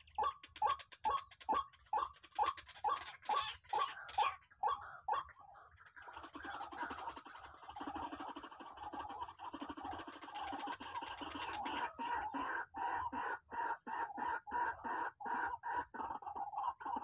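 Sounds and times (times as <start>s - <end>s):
rail bird calling: 0.0s - 17.0s.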